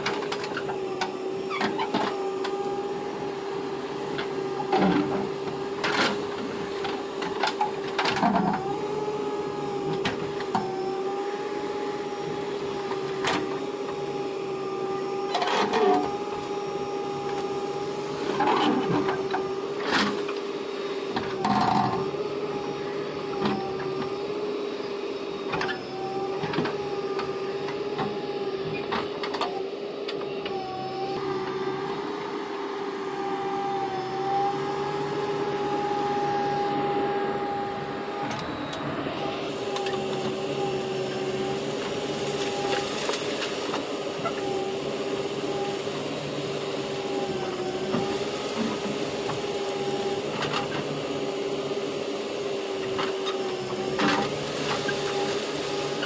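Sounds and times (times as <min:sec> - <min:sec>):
digger bucket clanking and scraping: 0:00.0 - 0:24.2, 0:25.4 - 0:31.6, 0:33.2 - 0:51.8, 0:52.5 - 0:56.0
diesel engine whining: 0:00.0 - 0:56.0.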